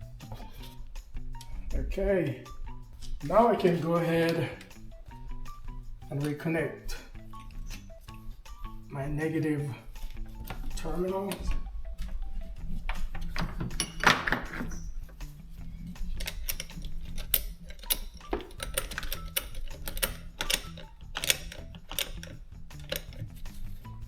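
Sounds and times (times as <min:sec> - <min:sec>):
metallic clicks of hand tools: 0:00.0 - 0:08.6, 0:12.8 - 0:24.0
quiet background music: 0:00.0 - 0:24.0.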